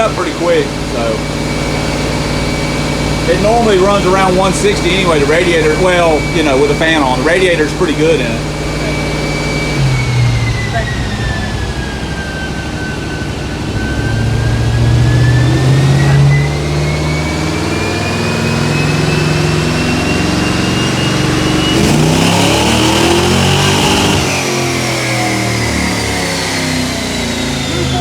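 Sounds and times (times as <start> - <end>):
car engine running under load: 0.0 - 28.0
thin rising whine: 0.0 - 28.0.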